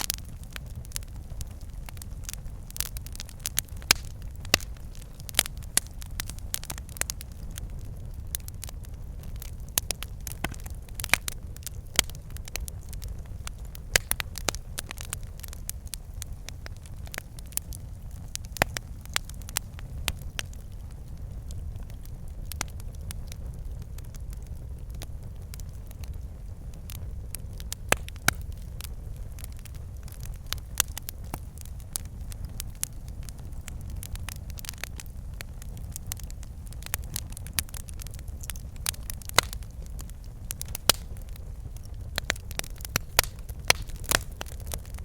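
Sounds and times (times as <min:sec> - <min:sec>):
low rumble of flames: 0:00.0 - 0:45.0
wood fire crackling and popping: 0:00.0 - 0:45.0.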